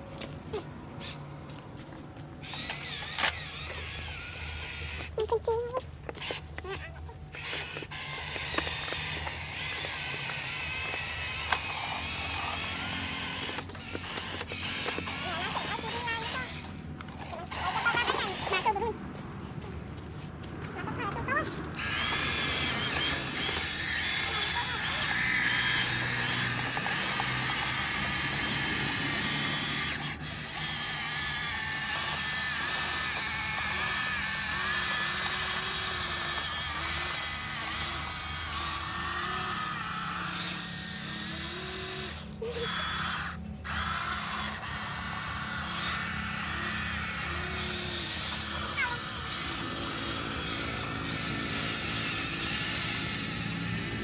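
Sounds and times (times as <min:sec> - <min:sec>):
toy truck electric motor whining: 0:00.0 - 0:54.0.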